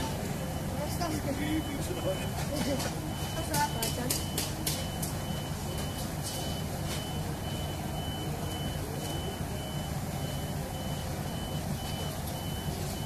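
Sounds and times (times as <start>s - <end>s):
diesel engine running: 0.0s - 13.0s
reversing alarm beeps: 0.0s - 13.0s.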